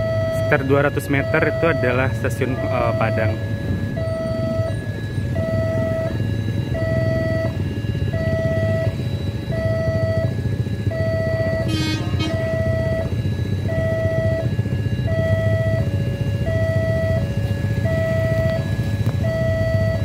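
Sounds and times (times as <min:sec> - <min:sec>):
low traffic rumble: 0:00.0 - 0:20.0
two-tone crossing alarm: 0:00.0 - 0:20.0.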